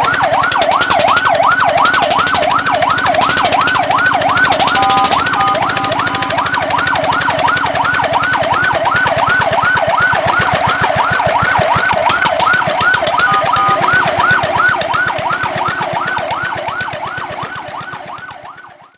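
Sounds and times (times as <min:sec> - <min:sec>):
two-note siren tone: 0:00.0 - 0:16.9
fire truck siren yelping: 0:00.0 - 0:18.9.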